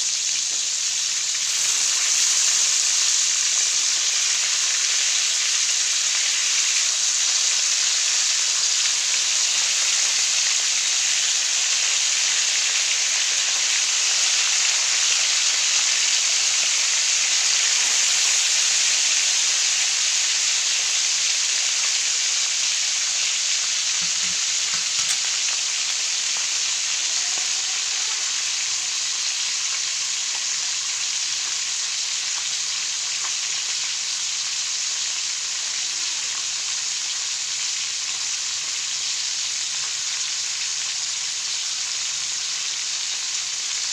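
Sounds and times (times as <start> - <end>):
fish sizzling in hot oil: 0.0 - 43.9.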